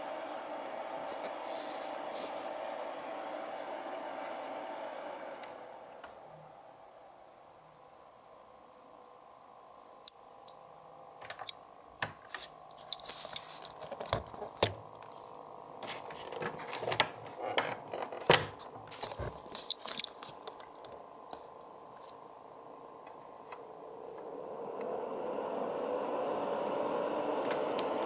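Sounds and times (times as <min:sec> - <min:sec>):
cooling fan humming: 0:00.0 - 0:28.0.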